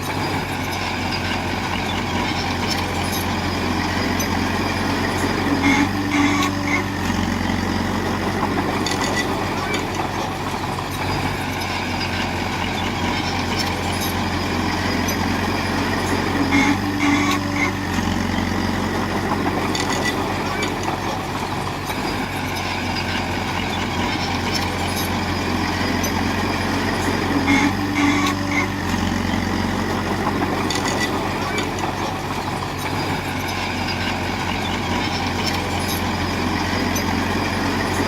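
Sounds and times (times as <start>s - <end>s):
diesel construction machinery running: 0.0s - 38.0s.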